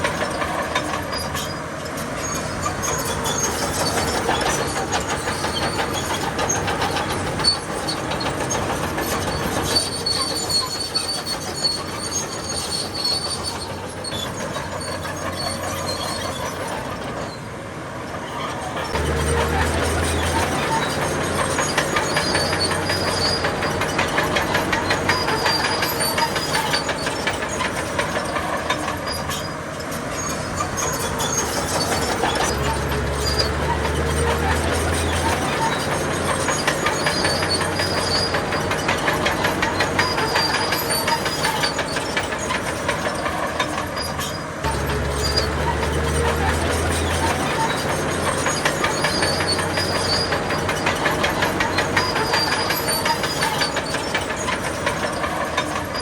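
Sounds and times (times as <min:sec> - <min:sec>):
bulldozer diesel engine under load: 0:00.0 - 0:56.0
steel tracks clattering: 0:00.0 - 0:56.0.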